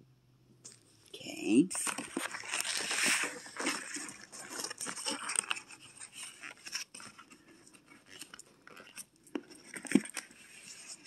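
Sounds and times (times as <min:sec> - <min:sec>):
plastic wrapping rustling: 0:01.8 - 0:11.0.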